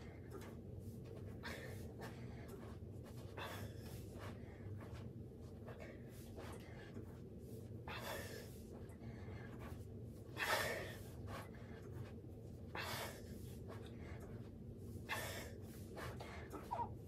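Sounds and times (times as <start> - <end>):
person breathing heavily: 0.0 - 17.0.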